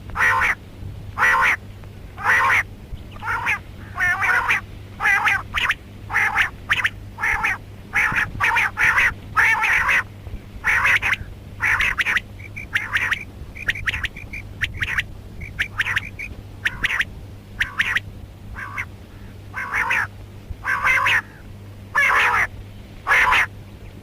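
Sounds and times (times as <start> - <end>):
quail harsh raspy calls: 0.1 - 0.6, 1.2 - 1.6, 2.2 - 23.5.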